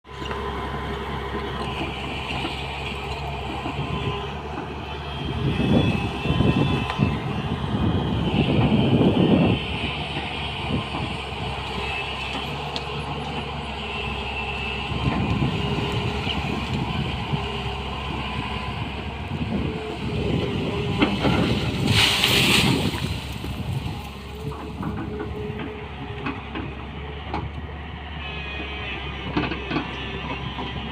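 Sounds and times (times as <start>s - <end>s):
excavator engine rumbling: 0.0s - 30.9s.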